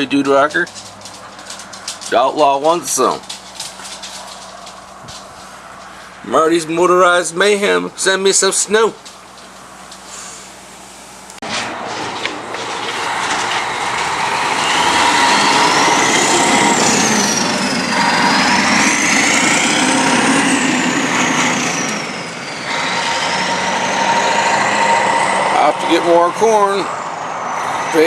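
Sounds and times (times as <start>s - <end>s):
high whine: 0.0s - 28.0s
heavy machine running: 0.5s - 7.0s, 11.4s - 28.0s.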